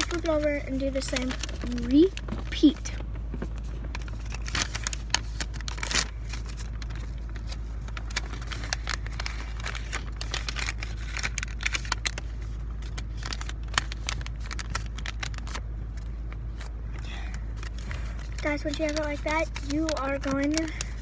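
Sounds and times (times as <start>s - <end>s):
low car hum: 0.0s - 21.0s
paper crinkling and rustling: 0.0s - 21.0s.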